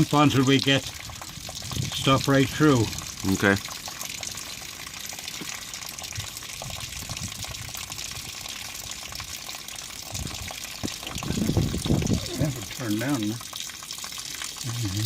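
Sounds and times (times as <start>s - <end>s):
water running from drain: 0.0s - 15.0s.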